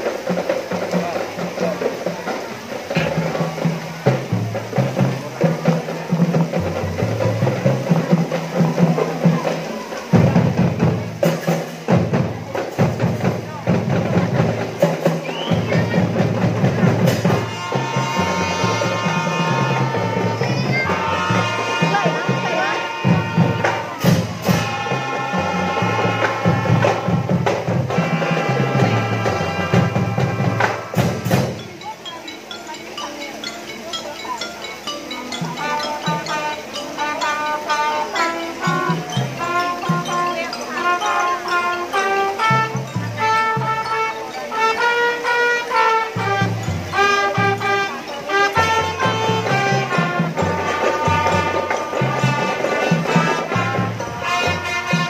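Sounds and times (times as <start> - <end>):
marching drum band playing: 0.0 - 55.0.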